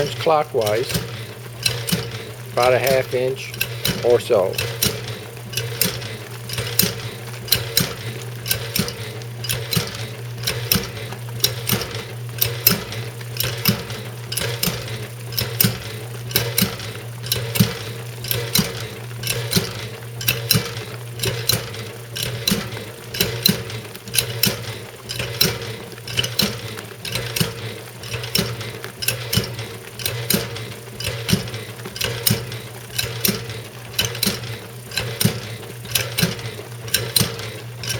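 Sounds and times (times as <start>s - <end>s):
motor hum: 0.0s - 37.9s
washing machine clanking mechanism: 0.0s - 37.9s.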